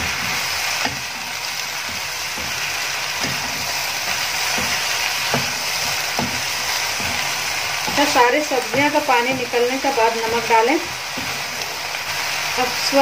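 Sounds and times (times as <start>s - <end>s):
vegetables sizzling in a pan: 0.0s - 13.0s
wooden spatula scraping a pan: 0.0s - 13.0s.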